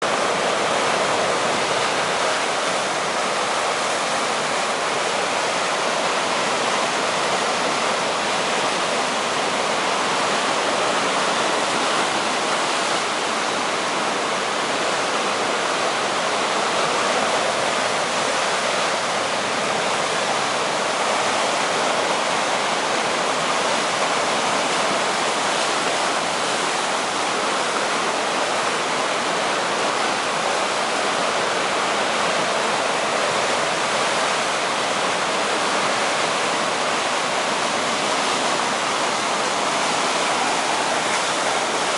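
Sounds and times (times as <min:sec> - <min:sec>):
heavy surf breaking on reef: 0:00.0 - 0:41.9.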